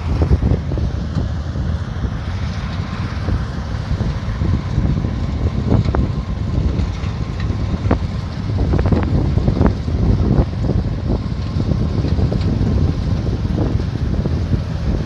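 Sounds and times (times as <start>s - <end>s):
combine harvester engine rumble: 0.0s - 15.0s
wind buffeting microphone: 0.0s - 15.0s.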